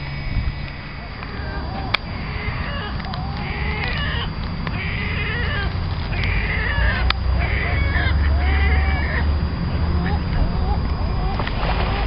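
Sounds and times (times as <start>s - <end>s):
steady low rumble: 0.0s - 12.0s
birds giving short calls: 0.6s - 12.0s.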